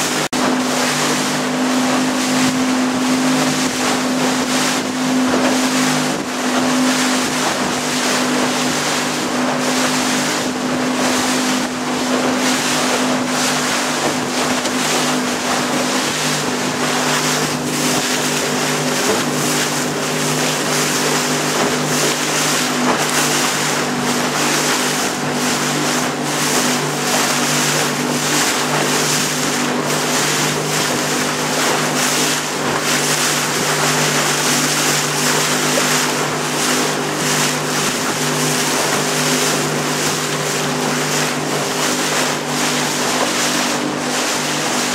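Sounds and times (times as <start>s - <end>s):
boat motor running: 0.0s - 44.9s
water rushing along hull: 0.0s - 44.9s.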